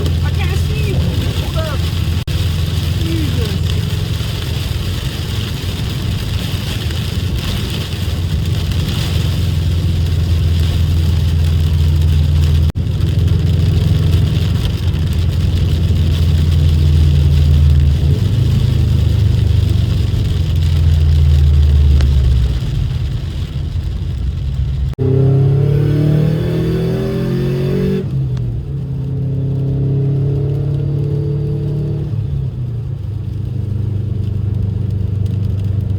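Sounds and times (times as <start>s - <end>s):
car engine droning: 0.0s - 35.9s
road noise: 0.0s - 35.9s.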